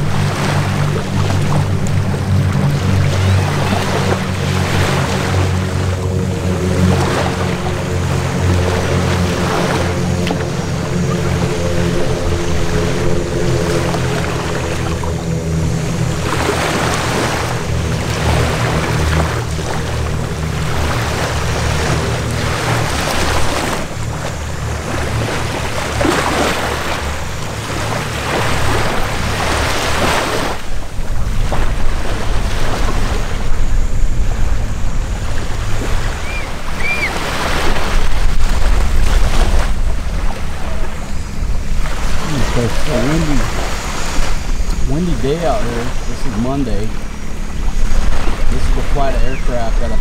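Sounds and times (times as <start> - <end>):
propeller planes droning overhead: 0.0 - 50.0
wind on microphone: 0.0 - 50.0.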